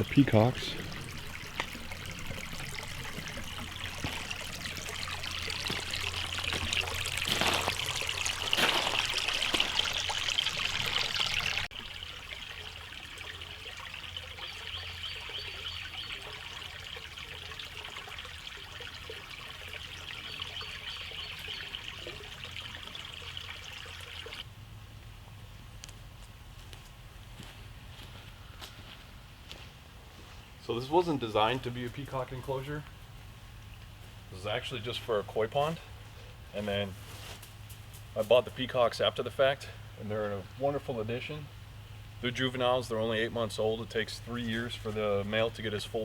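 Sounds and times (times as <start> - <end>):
pond water trickling and splashing: 0.0 - 24.5, 30.9 - 46.0.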